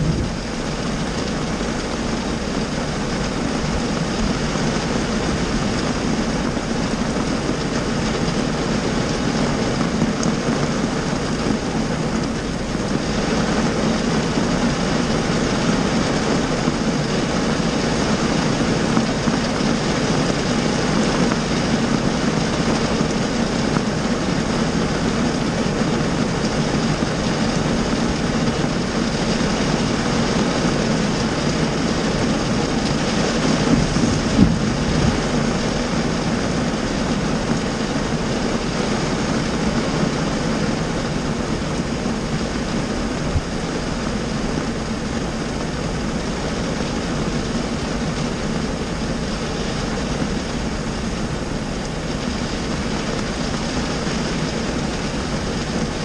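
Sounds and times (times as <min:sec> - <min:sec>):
heavy rain drumming on car roof: 0:00.0 - 0:56.0.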